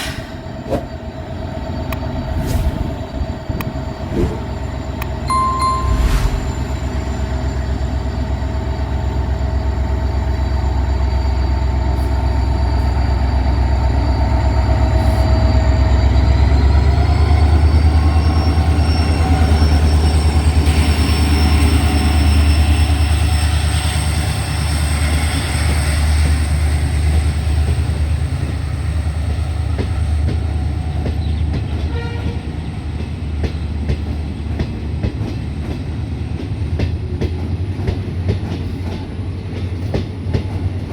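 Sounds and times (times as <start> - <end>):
train rumbling past: 0.0 - 40.9.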